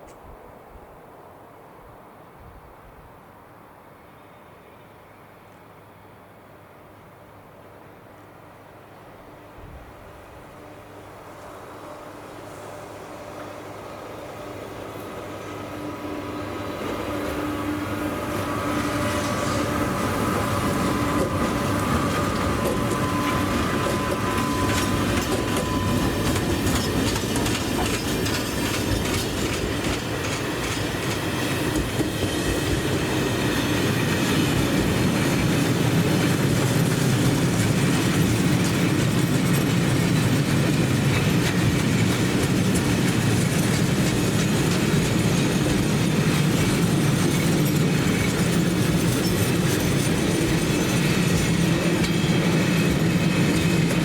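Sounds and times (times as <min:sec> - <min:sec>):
train rolling on rails: 0:00.0 - 0:54.0.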